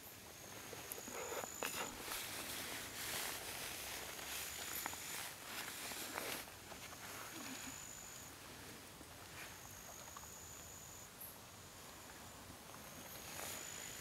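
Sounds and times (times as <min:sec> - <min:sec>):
faint high steady tone: 0:00.0 - 0:14.0.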